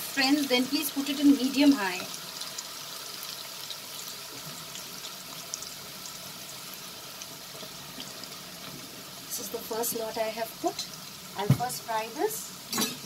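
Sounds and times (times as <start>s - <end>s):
okra sizzling in hot oil: 0.0s - 13.0s.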